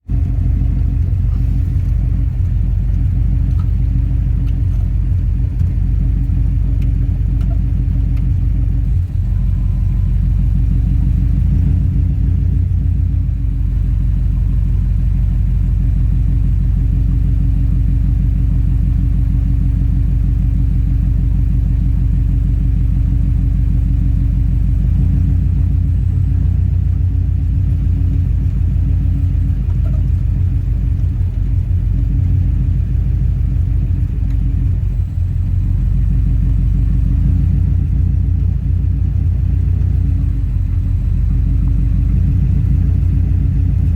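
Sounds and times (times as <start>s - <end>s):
engine rough idle: 0.0s - 43.9s.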